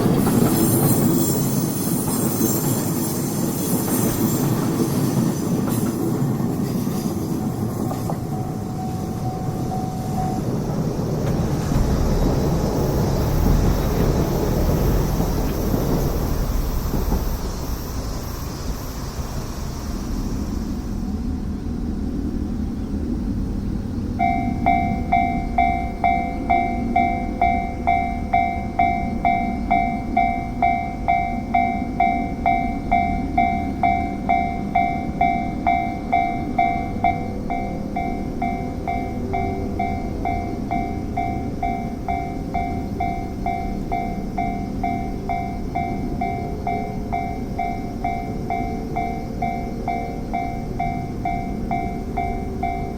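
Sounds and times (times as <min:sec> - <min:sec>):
level-crossing bell clanging: 0:00.0 - 0:18.5, 0:24.2 - 0:52.9.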